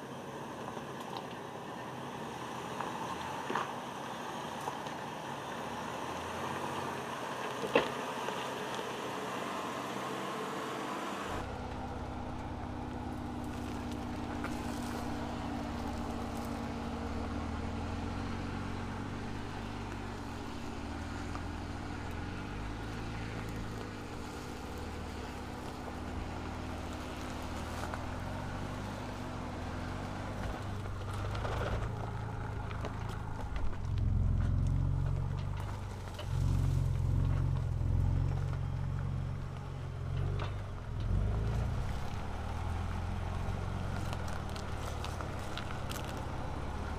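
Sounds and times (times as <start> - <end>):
road and tyre noise: 0.0 - 46.9
engine and exhaust revving: 5.4 - 46.9.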